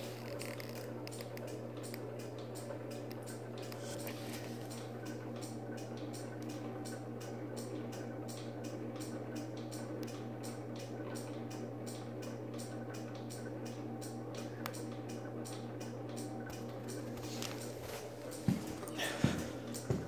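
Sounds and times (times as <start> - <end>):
steady low hum: 0.0 - 20.0
rapid ticking of lightbar: 1.0 - 18.5.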